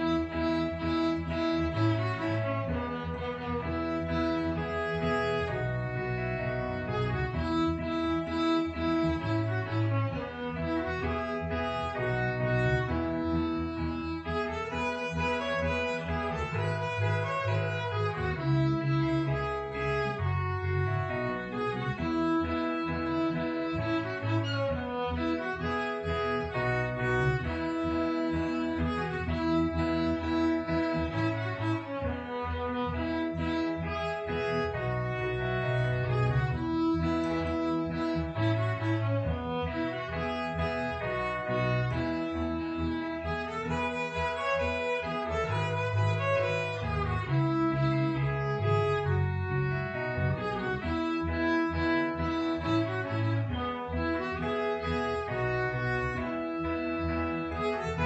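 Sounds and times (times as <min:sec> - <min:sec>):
violin and cello playing a hymn: 0:00.0 - 0:58.0.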